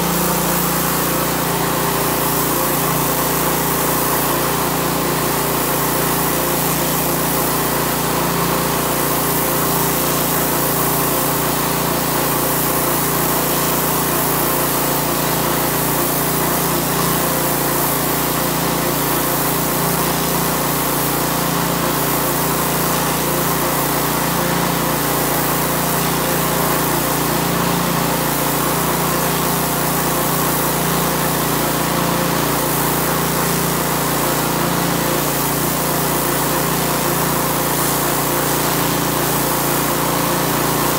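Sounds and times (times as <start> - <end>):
pressure washer motor droning: 0.0 - 40.9
water jet hissing on concrete: 0.0 - 40.9.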